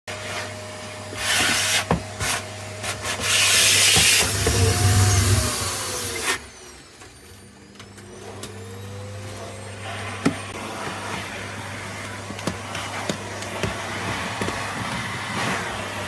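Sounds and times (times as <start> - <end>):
vacuum cleaner motor whine: 0.1 - 16.0.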